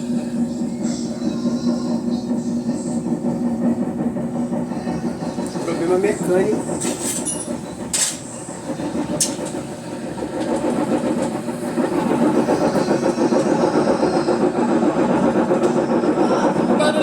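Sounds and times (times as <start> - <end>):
washing machine rough mechanical noise: 0.0 - 17.0.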